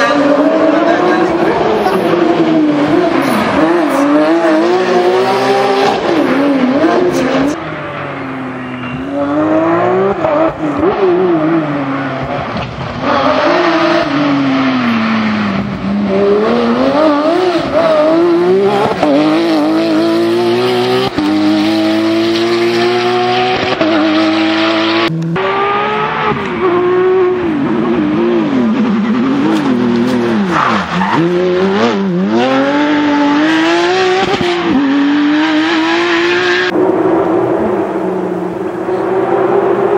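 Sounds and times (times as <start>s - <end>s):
car engine revving hard: 0.0s - 7.6s, 8.9s - 39.9s.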